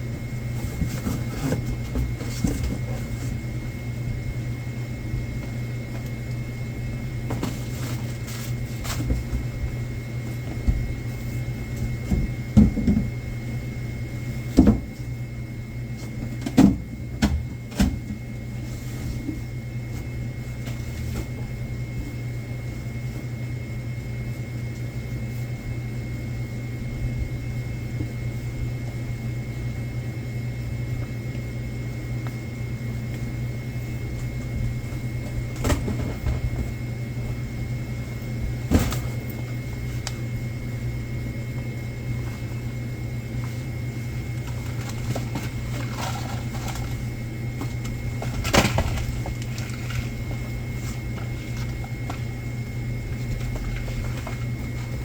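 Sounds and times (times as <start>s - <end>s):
low machine hum: 0.0s - 55.0s.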